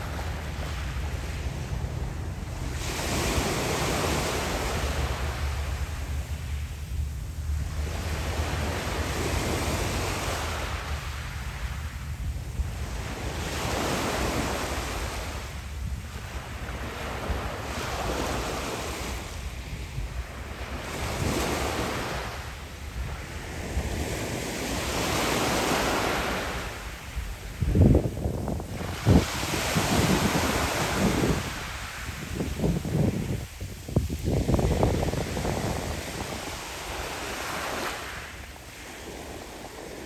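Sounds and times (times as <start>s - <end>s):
wind on microphone: 0.0s - 40.0s.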